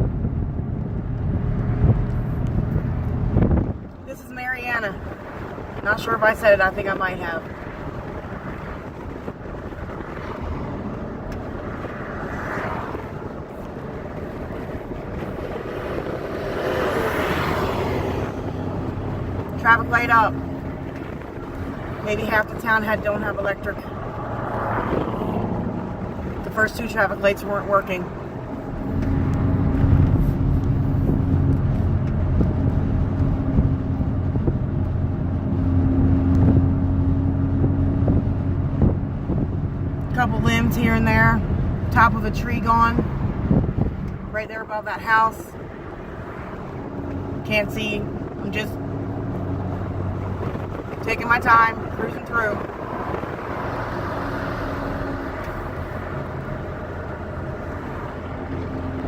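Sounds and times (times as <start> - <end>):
road and engine noise inside car: 0.0 - 59.0.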